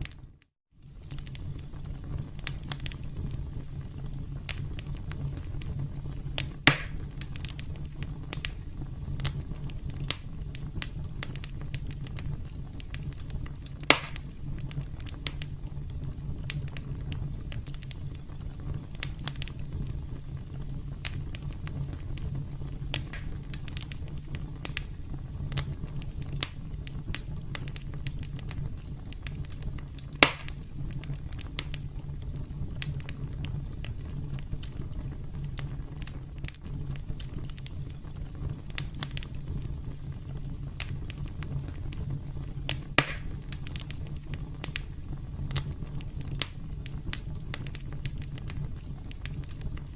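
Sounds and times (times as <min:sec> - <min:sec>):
campfire crackling: 0:00.0 - 0:49.9
loud fire pops: 0:00.0 - 0:49.9.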